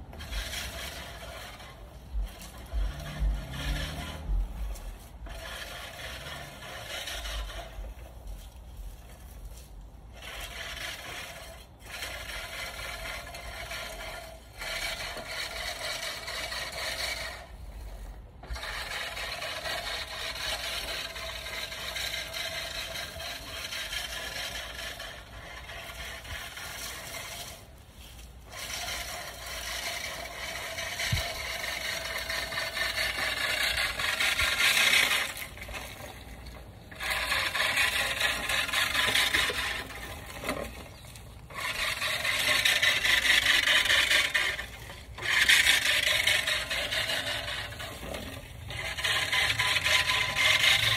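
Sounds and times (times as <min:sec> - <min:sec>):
reel lawn mower cutting grass: 0:00.0 - 0:50.9.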